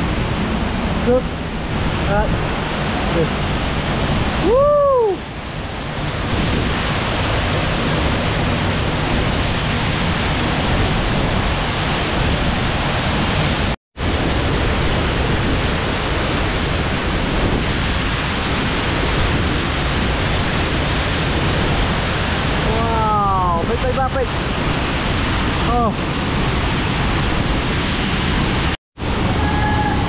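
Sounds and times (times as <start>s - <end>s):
waterfall roaring: 0.0s - 30.0s.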